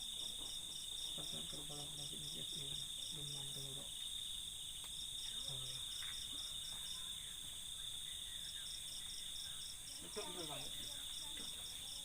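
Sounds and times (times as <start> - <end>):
insect pulsed chirp: 0.0 - 12.0
insects chirring: 0.0 - 12.0.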